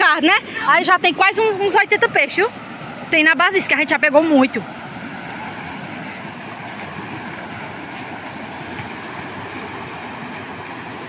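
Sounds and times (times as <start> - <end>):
river floodwater rushing: 0.0 - 11.0.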